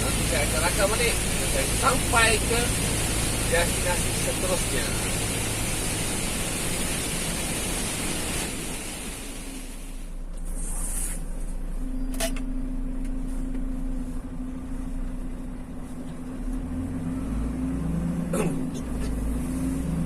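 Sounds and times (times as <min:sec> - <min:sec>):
vehicle engine low hum: 0:00.0 - 0:20.0.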